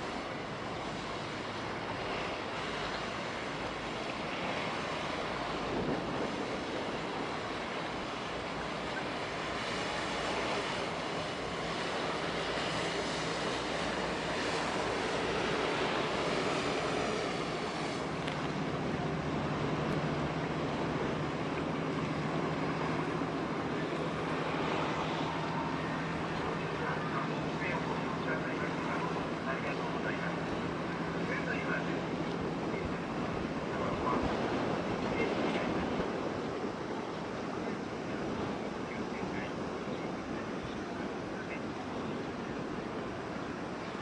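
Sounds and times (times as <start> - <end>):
boat engine hum: 0.0 - 44.0
water rushing: 0.0 - 44.0.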